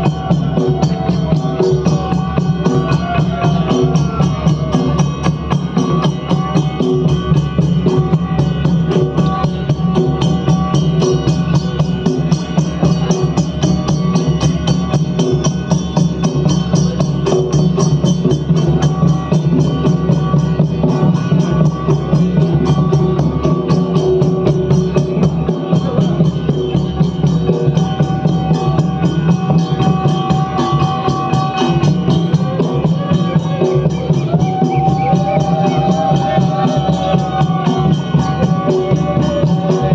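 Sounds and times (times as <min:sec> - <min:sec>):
fast steady drumming: 0:00.0 - 0:39.9.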